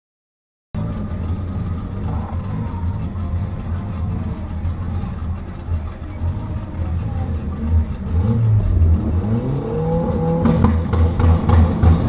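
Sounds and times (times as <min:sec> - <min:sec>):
car engine running at low revs: 0:00.8 - 0:12.0.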